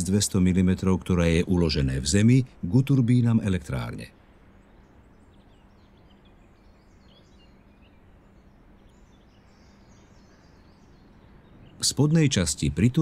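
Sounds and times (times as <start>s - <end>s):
distant birds chirping: 0.0s - 13.0s
low steady hum: 0.0s - 13.0s.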